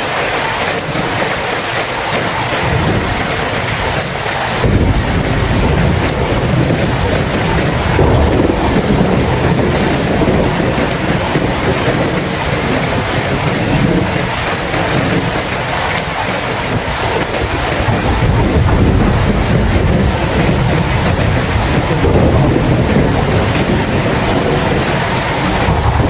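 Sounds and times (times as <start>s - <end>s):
heavy rain: 0.0s - 26.0s
rolling thunder rumble: 0.0s - 26.0s.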